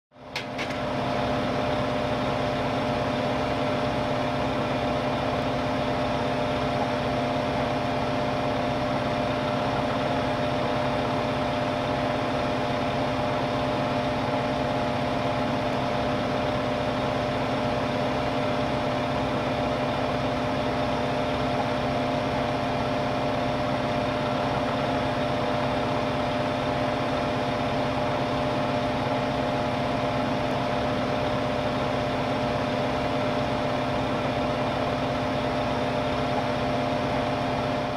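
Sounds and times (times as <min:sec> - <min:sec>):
vehicle engine idling: 0:00.2 - 0:37.9.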